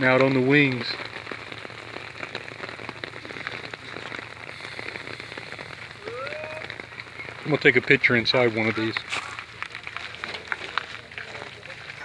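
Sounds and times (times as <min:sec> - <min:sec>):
sharp raindrop ticks: 0:00.0 - 0:12.0
steady rain: 0:00.0 - 0:12.0.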